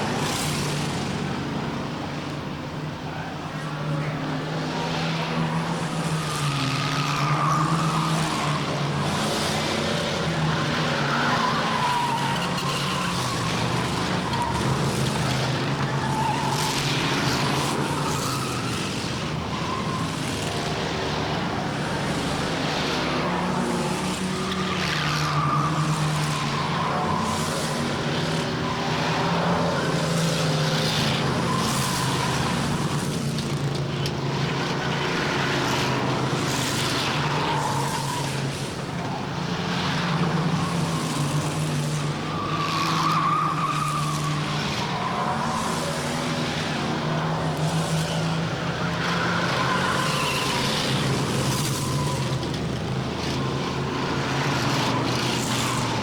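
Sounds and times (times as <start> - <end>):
stock car engines passing: 0.0 - 56.0
tires squealing: 0.0 - 56.0.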